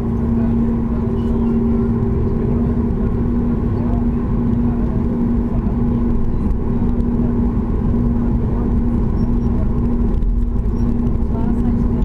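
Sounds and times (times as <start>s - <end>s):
jet engines droning in cabin: 0.0s - 12.0s
steady hum: 0.0s - 12.0s.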